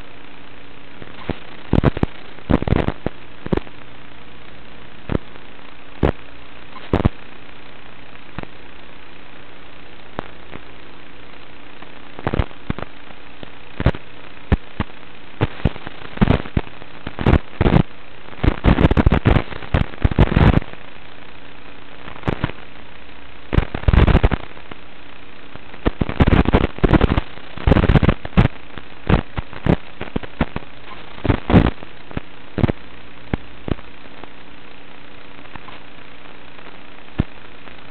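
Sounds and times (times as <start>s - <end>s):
sharp crackling static bursts: 0.0s - 37.9s
steady hum: 0.0s - 37.9s.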